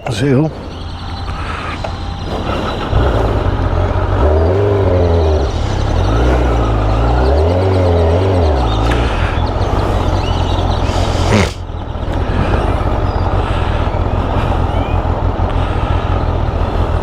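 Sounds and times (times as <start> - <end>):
motorcycle engine: 0.0 - 17.0
wind noise: 0.0 - 17.0.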